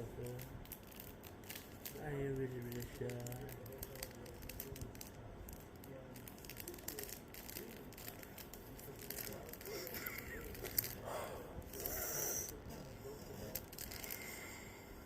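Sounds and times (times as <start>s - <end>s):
wrapper crinkling and tearing: 0.2s - 11.0s, 11.7s - 14.4s.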